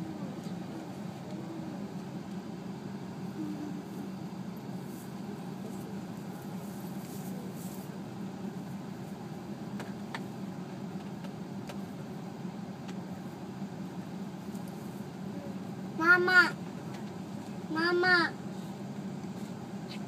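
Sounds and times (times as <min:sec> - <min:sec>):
vehicle idling hum: 0:00.0 - 0:20.0.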